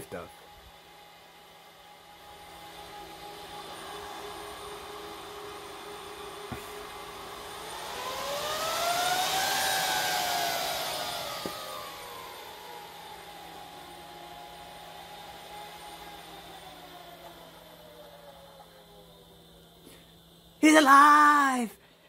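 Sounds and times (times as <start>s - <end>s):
server cooling fans whining: 0.0s - 22.0s.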